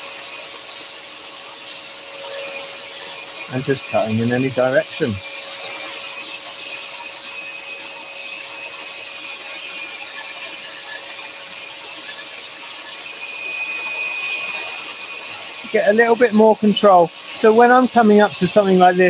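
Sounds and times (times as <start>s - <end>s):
scroll saw cutting wood: 0.0s - 19.0s.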